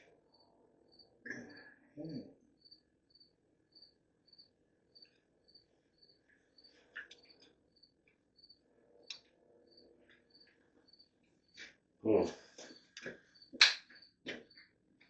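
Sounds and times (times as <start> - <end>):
cricket chirping: 0.3 - 11.6, 12.7 - 14.7.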